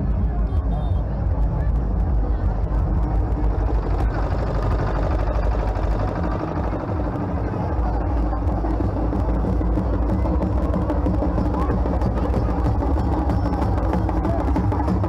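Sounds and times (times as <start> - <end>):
crowd din of many voices: 0.0 - 15.0
truck engine rumbling: 0.0 - 15.0.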